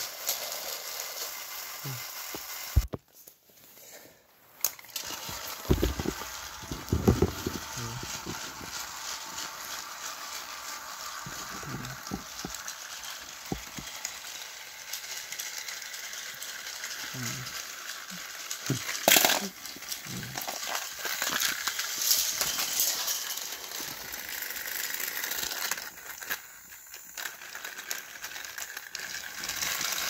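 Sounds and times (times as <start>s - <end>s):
toy train whirring rattle: 0.0s - 3.4s, 4.4s - 30.0s.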